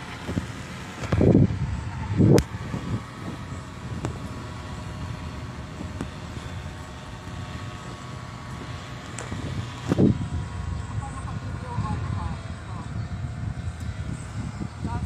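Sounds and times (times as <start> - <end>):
paramotor engine idling: 0.0 - 15.0.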